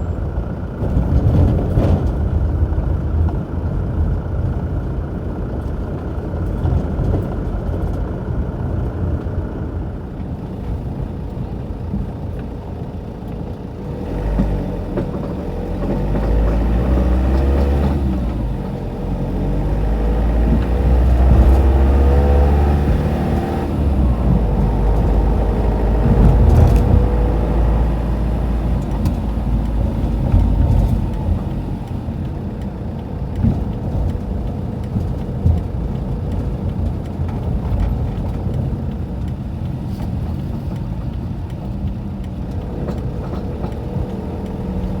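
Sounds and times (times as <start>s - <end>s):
road rumble: 0.0s - 45.0s
van engine: 0.0s - 45.0s.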